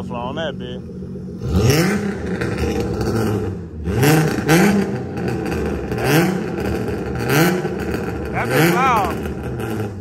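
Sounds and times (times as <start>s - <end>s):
engine revving through exhaust: 0.9s - 10.0s.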